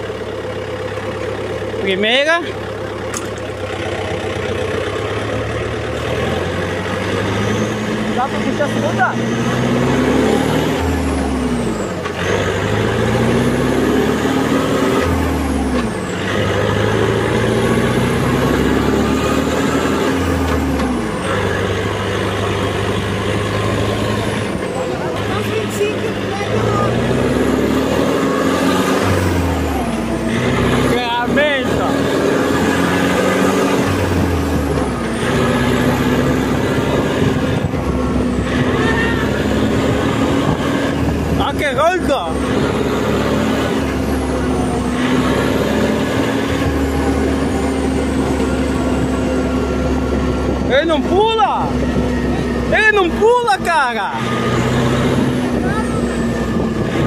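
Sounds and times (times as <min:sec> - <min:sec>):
tractor diesel engine pulling: 0:00.0 - 0:57.0.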